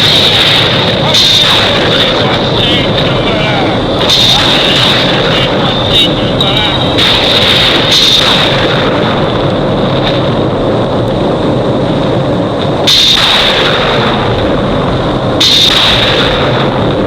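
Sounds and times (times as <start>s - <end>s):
hissy lightning surges: 0.0s - 17.0s
storm rumbling: 0.0s - 17.0s.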